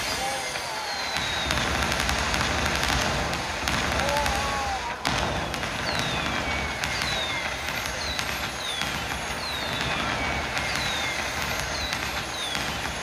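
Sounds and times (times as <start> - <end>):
fireworks crackling and popping: 0.0 - 13.0
sharp firework bang: 1.1 - 13.0.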